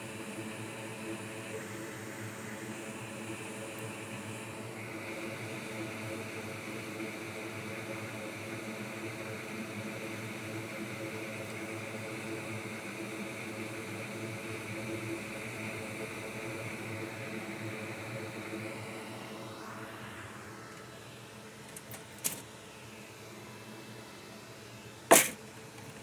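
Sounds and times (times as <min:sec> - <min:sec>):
mechanical whir with hiss: 0:00.0 - 0:26.0.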